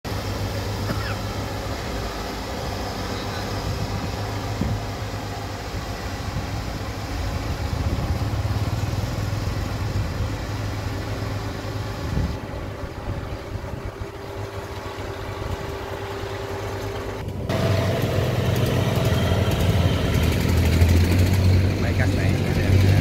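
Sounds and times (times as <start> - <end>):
diesel engines droning: 0.1 - 23.0.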